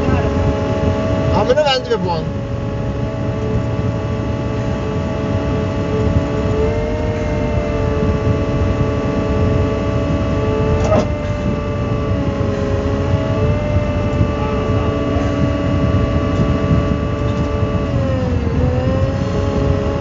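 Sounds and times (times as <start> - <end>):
diesel engine under hydraulic load: 0.0 - 20.0.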